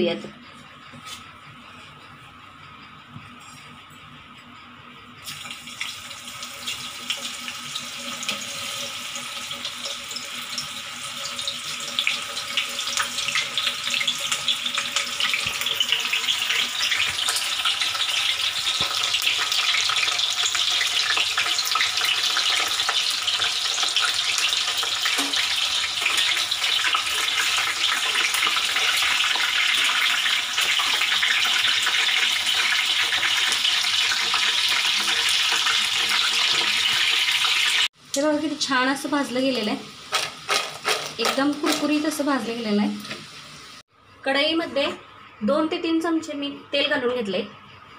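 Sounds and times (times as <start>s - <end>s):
oil sizzling and crackling: 5.2s - 43.8s.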